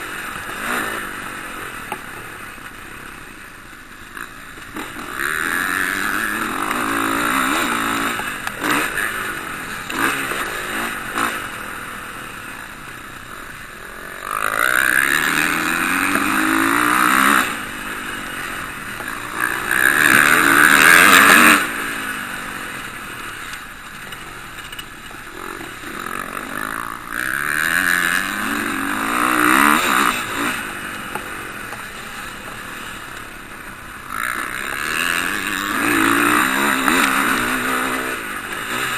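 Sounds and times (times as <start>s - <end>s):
motocross bikes revving past: 0.0s - 38.9s.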